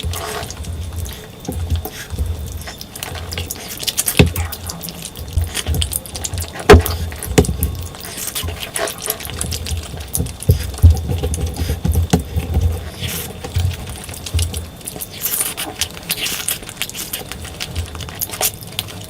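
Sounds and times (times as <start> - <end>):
wet chewing sounds: 0.0 - 19.0.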